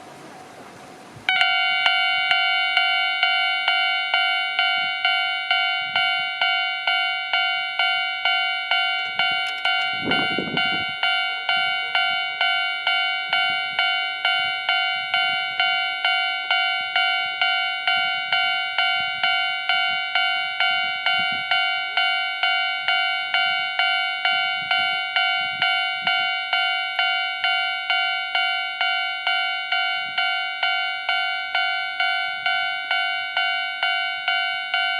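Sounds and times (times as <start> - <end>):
level crossing bell ringing: 1.3 - 34.9.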